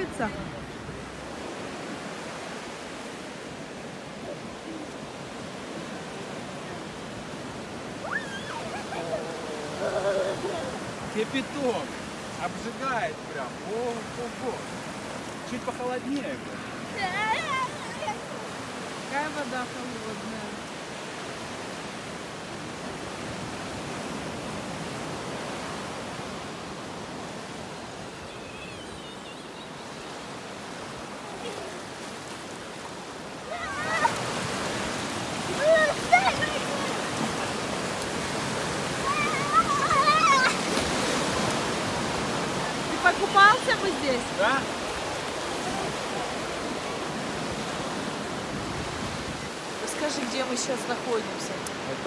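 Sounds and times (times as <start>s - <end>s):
waves breaking on a beach: 0.0s - 52.0s.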